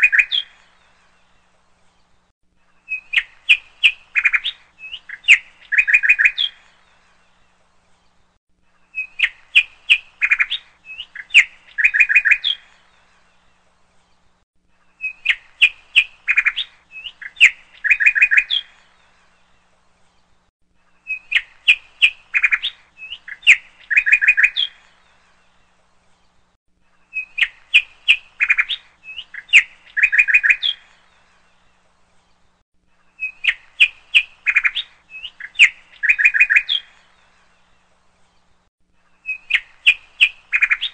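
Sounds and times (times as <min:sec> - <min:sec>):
bird chirps: 0:00.0 - 0:40.9.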